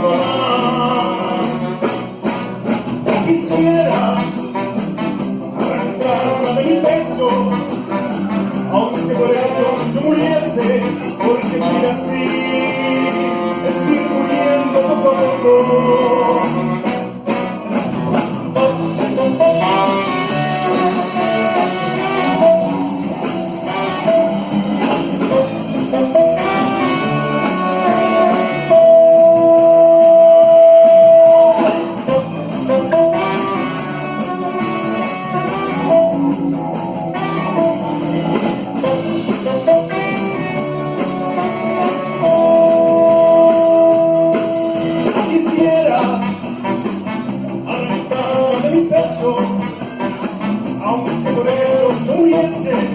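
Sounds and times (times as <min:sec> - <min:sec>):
guitar melody: 0:00.0 - 0:48.5
band playing a ballad: 0:00.0 - 0:52.9.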